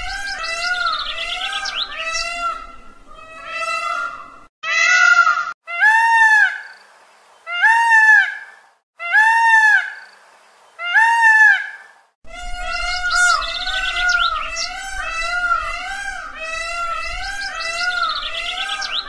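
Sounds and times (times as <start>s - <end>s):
peacock calling: 0.0s - 6.8s, 7.4s - 10.1s, 10.7s - 19.0s.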